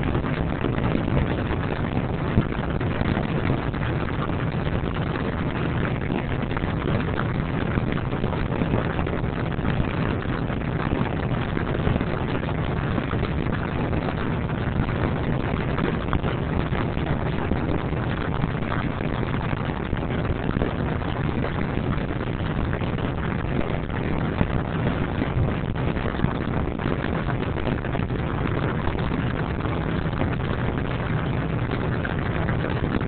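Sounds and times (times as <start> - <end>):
wind: 0.0 - 33.0.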